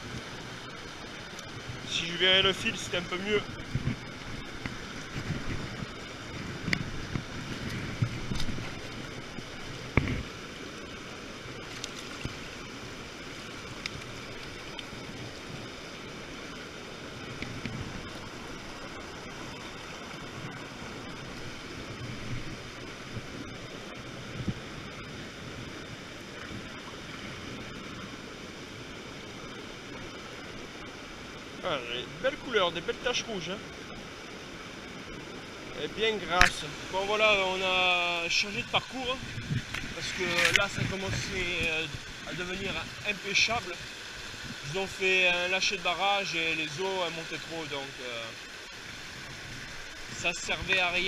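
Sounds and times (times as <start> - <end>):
river water rushing: 0.0 - 51.0.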